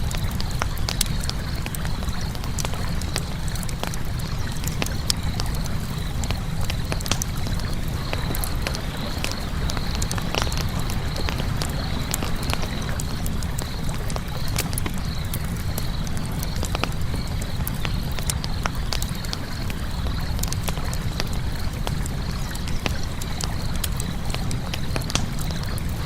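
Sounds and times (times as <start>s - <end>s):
campfire pops and snaps: 0.0s - 26.0s
low fire rumble: 0.0s - 26.0s.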